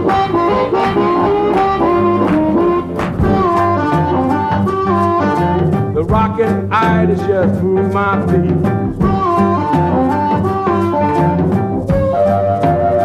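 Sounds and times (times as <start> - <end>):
blues band music: 0.0 - 13.0
wind instrument bending notes: 0.0 - 13.0.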